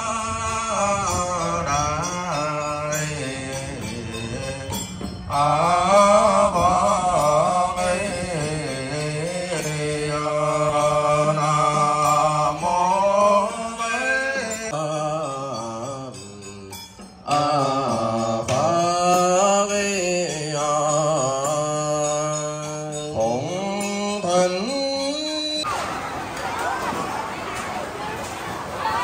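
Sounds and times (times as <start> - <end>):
person singing slow chant: 0.0 - 25.7.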